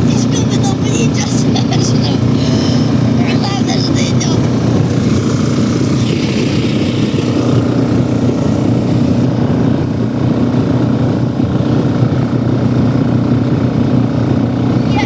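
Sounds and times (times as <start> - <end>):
walk-behind tractor engine running: 0.0 - 15.0.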